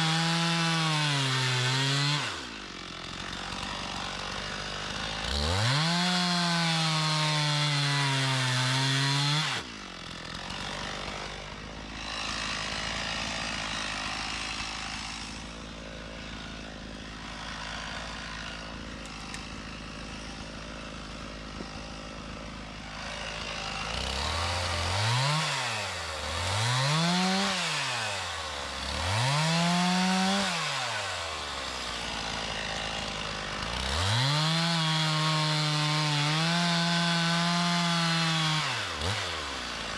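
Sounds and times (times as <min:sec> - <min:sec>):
chainsaw cutting wood: 0:00.0 - 0:39.9
chainsaw idling and revving: 0:00.0 - 0:39.9.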